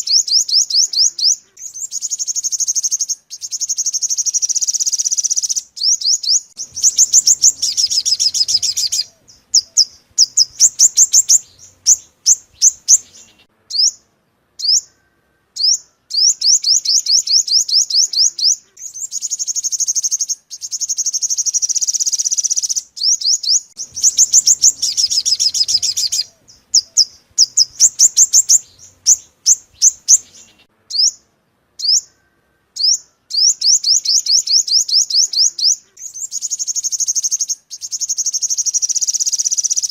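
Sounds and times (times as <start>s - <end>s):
sunbird singing high notes: 0.0s - 39.9s.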